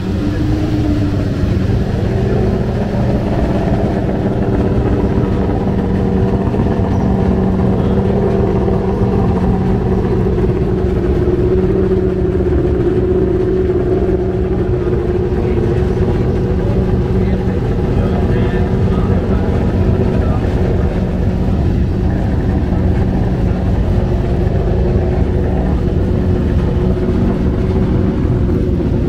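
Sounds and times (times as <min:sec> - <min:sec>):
racing engine idling: 0:00.0 - 0:29.0.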